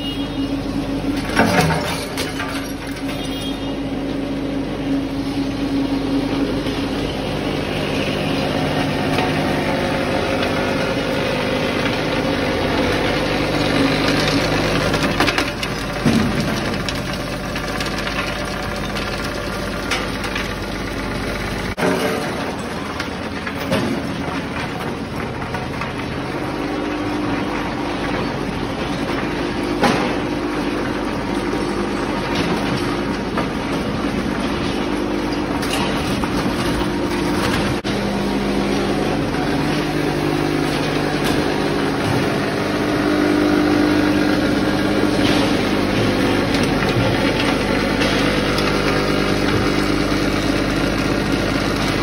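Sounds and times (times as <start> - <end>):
conveyor mechanical hum: 0.0 - 52.0.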